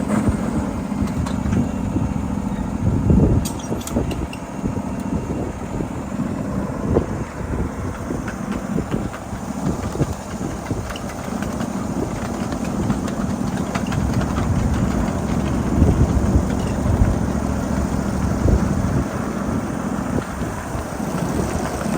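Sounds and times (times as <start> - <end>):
track clicks and clacks: 0.0 - 5.2, 7.0 - 21.9
wheels rumbling on rail: 0.0 - 21.9.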